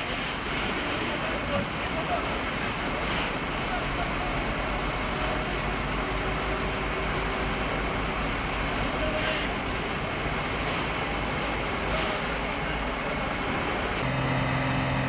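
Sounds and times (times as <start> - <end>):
fire engines running: 0.0 - 15.0
fire hoses spraying water: 0.0 - 15.0.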